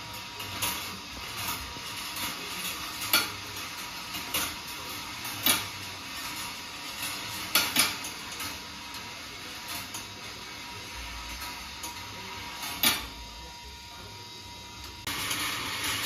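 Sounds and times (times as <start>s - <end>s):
marbles rolling on wire rails: 0.0s - 13.1s, 15.0s - 16.0s.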